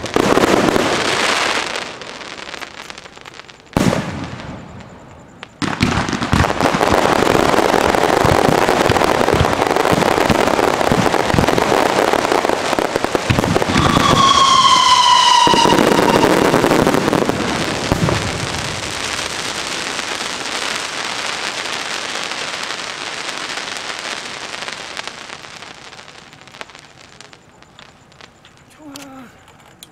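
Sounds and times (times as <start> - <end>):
firework whistle: 0.0 - 29.3
fireworks crackling bangs: 0.0 - 29.9.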